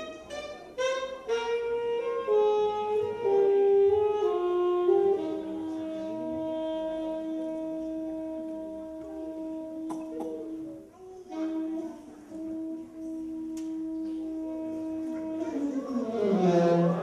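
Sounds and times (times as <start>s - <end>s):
saxophone long notes: 0.0s - 17.0s.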